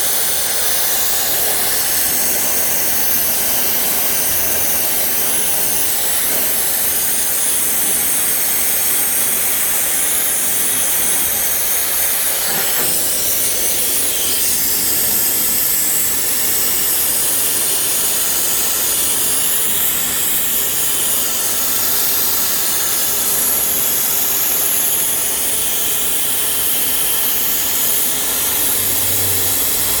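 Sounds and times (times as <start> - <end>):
high-pressure water jet hissing: 0.0 - 30.0.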